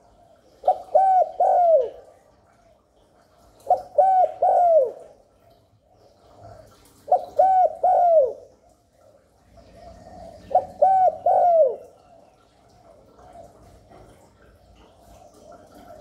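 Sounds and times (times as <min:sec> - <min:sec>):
dove cooing: 0:00.0 - 0:02.3, 0:03.6 - 0:05.2, 0:06.2 - 0:08.8, 0:09.5 - 0:16.0.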